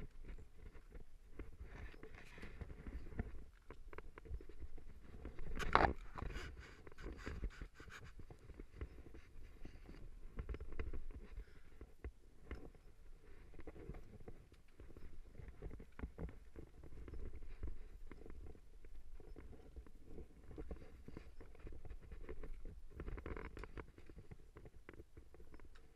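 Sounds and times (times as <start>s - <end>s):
gear rubbing and knocking on camera: 0.0s - 25.9s.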